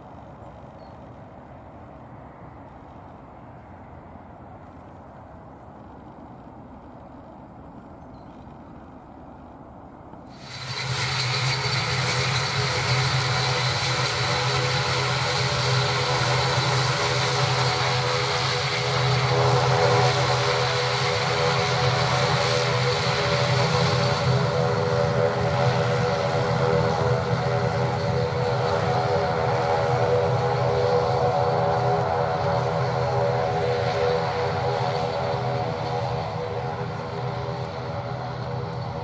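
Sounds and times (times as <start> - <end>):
propeller drone with turbine whine: 0.0 - 39.0.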